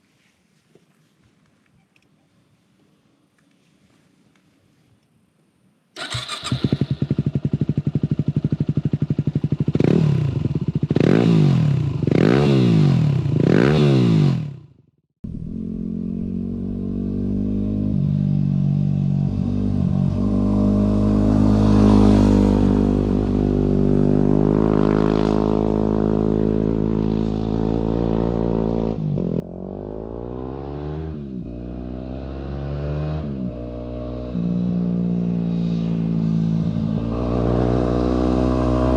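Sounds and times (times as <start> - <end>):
motorcycle engine starting and revving: 6.0 - 38.9.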